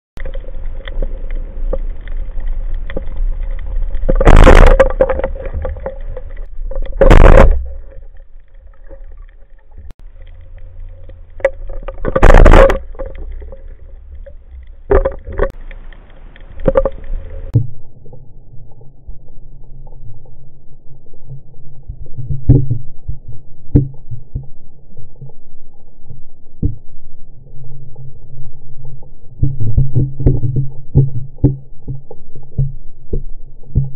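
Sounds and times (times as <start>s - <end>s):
underwater low hum: 0.2s - 33.9s.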